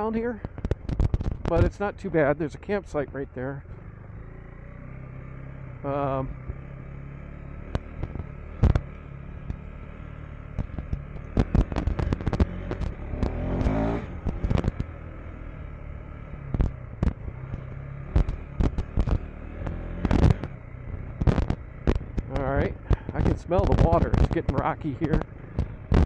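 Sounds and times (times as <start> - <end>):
motorcycle engine running low: 0.0 - 26.0.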